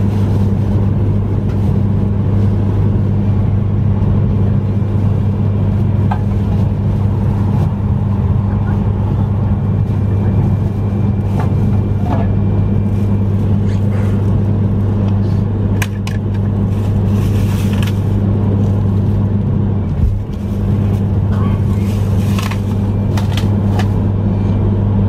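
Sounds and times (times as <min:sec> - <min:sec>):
train running hum and rumble: 0:00.0 - 0:25.0.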